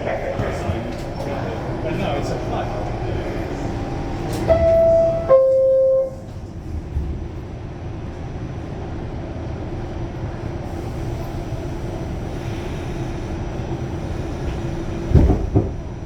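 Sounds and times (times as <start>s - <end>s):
subway car low rumble: 0.0s - 16.0s.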